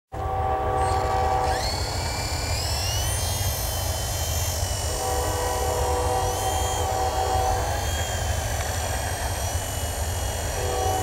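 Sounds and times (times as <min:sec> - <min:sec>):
rc helicopter motor whine: 0:00.2 - 0:11.0.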